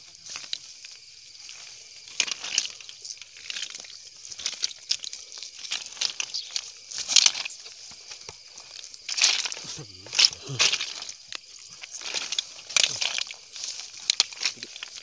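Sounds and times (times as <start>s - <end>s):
grass rustling and crackling: 0.2s - 15.0s.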